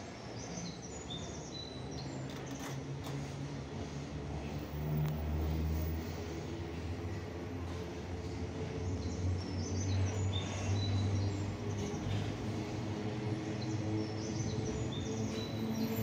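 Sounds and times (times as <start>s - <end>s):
freight train rumbling: 2.2s - 16.0s.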